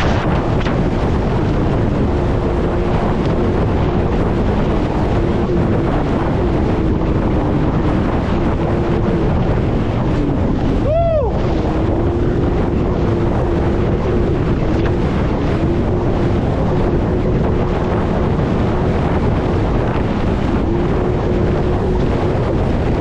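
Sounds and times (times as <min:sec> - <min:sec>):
jet ski engine running: 0:00.0 - 0:23.0
water rushing: 0:00.0 - 0:23.0
wind buffeting microphone: 0:00.0 - 0:23.0.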